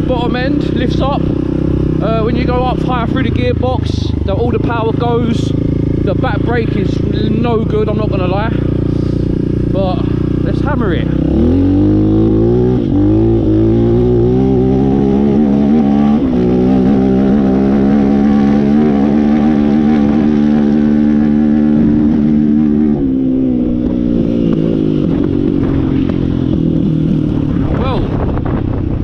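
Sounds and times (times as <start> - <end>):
motorbike engine at full throttle: 0.0 - 29.0.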